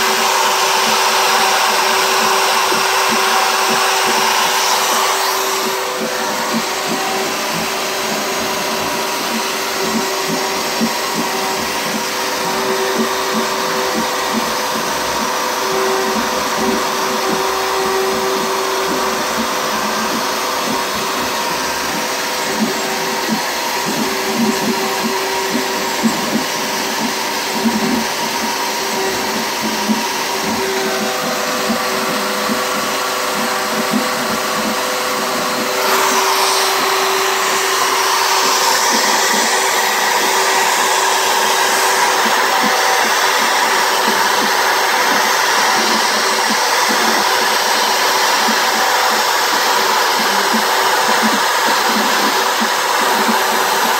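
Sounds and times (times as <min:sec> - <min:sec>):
router bit crackling in wood: 0:00.0 - 0:53.9
router motor whine: 0:00.0 - 0:53.9.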